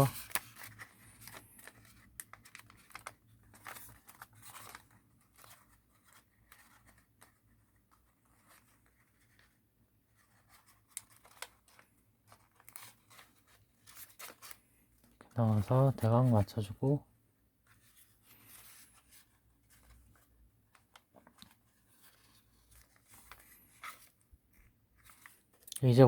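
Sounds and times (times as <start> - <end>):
paper rustling and crinkling: 0.0 - 16.6, 17.6 - 25.6.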